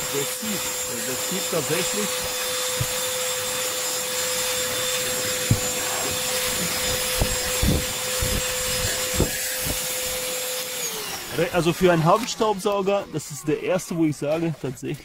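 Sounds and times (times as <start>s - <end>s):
handheld vacuum cleaner running: 0.0s - 14.5s.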